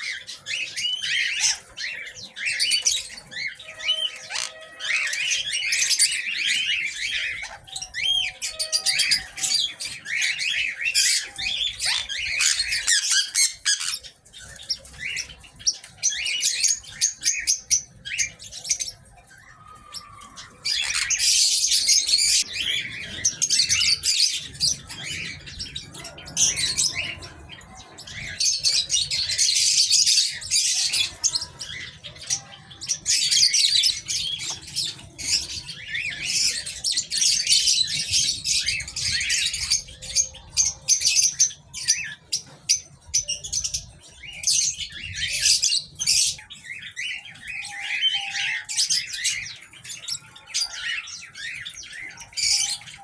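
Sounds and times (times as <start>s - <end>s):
small birds chirping and chattering: 0.0s - 53.0s.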